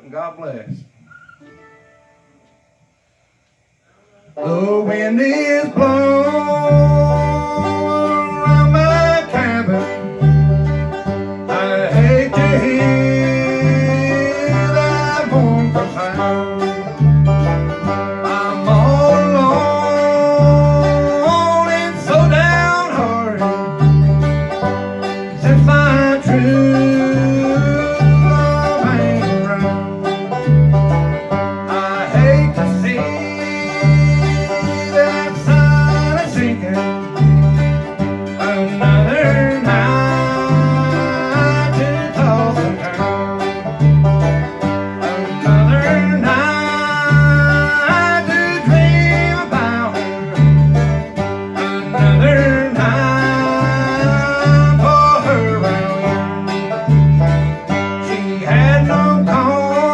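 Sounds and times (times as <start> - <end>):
acoustic bass guitar notes: 0.0 - 59.9
guitar: 0.0 - 59.9
banjo picking: 4.2 - 59.9.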